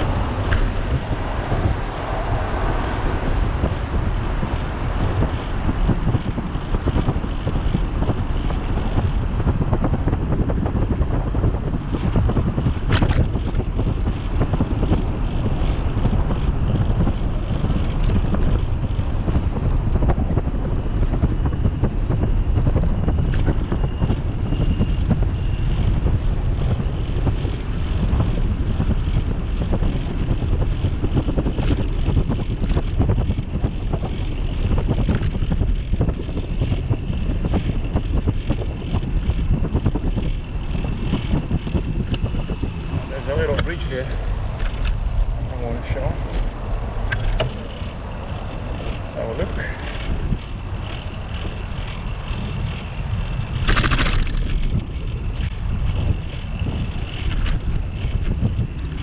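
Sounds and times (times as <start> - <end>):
wind buffeting microphone: 0.0 - 59.0
bicycle clicks: 4.5 - 20.4, 22.8 - 24.2, 24.8 - 59.0.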